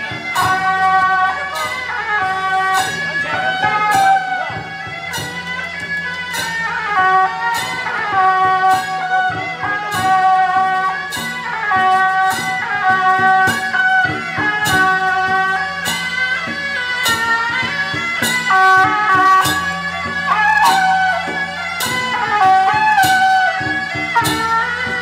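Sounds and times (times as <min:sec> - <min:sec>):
percussion strikes: 0:00.0 - 0:25.0.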